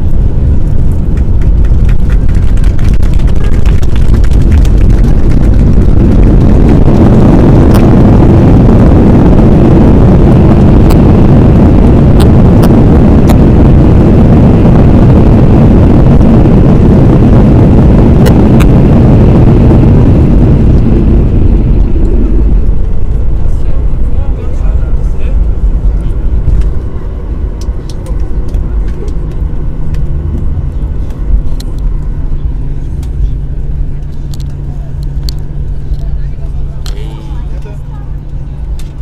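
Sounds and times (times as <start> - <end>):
jet engine rush: 0.0 - 39.0
wind buffeting microphone: 0.0 - 39.0.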